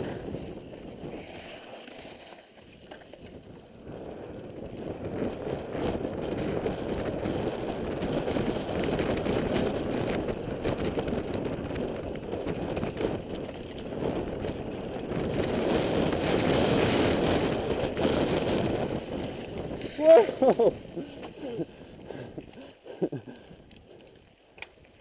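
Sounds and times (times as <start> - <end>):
wind buffeting microphone: 0.0 - 1.7, 3.2 - 24.4
bike rattling and clicking: 0.0 - 25.0
bike tyres rolling over dirt: 0.0 - 25.0.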